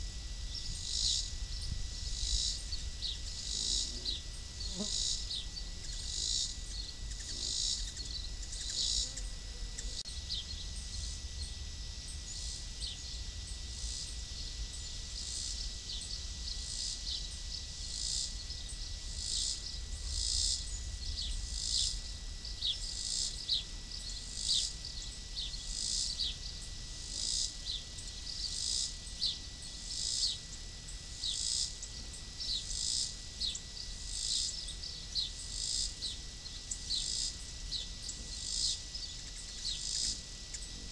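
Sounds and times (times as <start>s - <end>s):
insects chirping: 0.0s - 40.9s
thin constant high tone: 0.0s - 40.9s.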